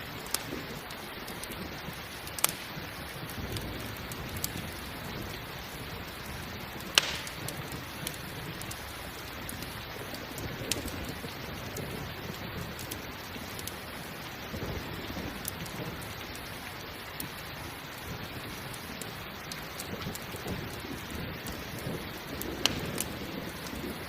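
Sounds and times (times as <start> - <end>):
steady rain: 0.0 - 24.0
wood fire crackling: 0.0 - 24.0.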